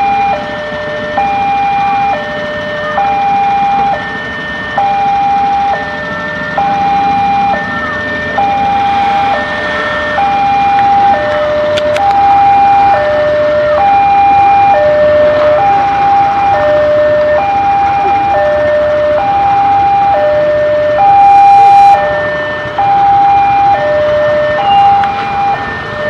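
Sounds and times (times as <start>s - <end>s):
motorcycles idling: 0.0s - 26.0s
two-tone crossing alarm: 0.0s - 26.0s.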